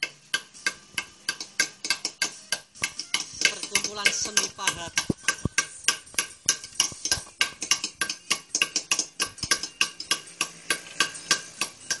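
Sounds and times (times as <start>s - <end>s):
hammer striking chisel on stone: 0.0s - 12.0s.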